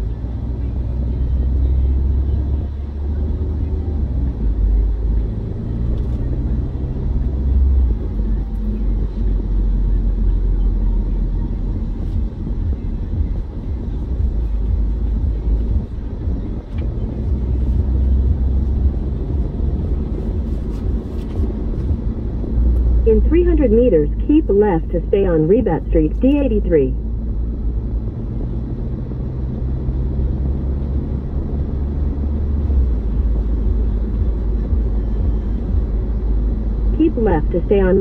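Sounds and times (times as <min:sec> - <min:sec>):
car tyre and engine rumble: 0:00.0 - 0:38.0.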